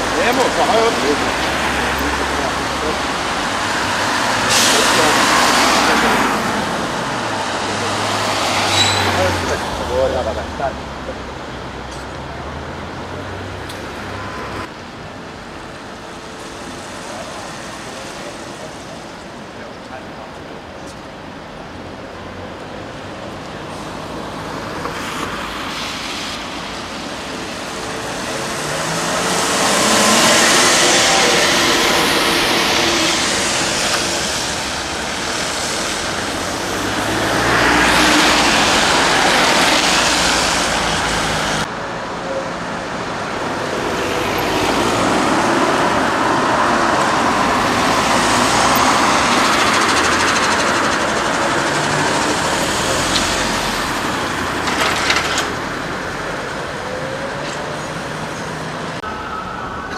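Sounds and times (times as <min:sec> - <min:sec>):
tyres hissing on wet asphalt: 0:00.0 - 0:21.4, 0:22.4 - 0:59.0
trolleybus passing: 0:00.0 - 0:59.9.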